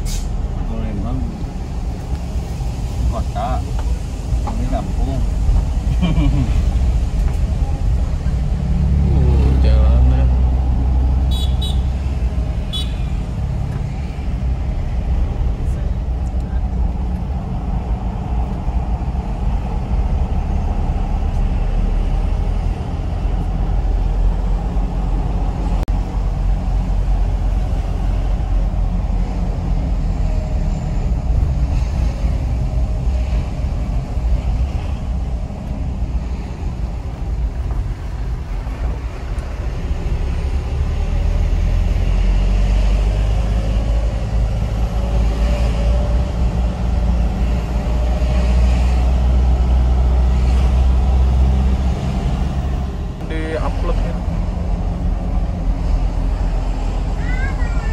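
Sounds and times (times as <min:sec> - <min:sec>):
vehicle engine and tyre drone: 0:00.0 - 0:57.9.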